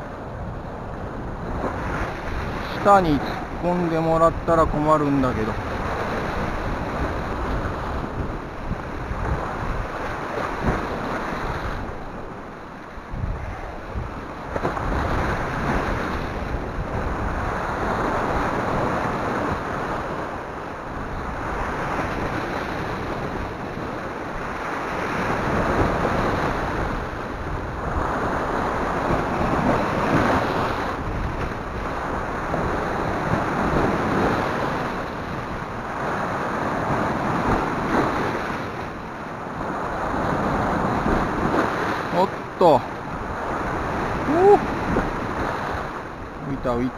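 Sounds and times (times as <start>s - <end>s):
waves washing over rocky shore: 0.0s - 46.9s.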